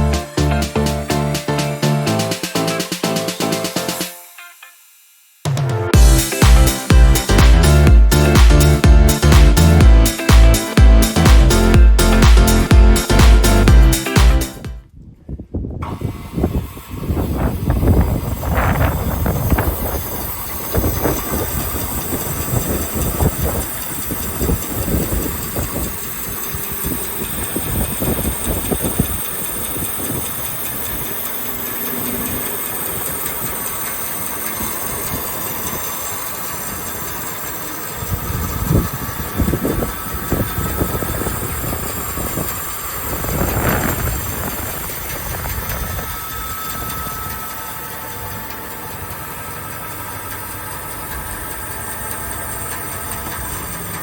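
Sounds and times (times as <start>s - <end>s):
band saw cutting wood: 0.0s - 14.7s, 15.8s - 54.0s.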